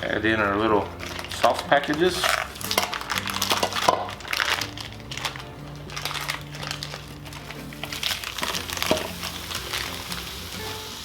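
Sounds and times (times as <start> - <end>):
background music: 0.0 - 11.0
plastic packets crinkling: 0.2 - 10.4.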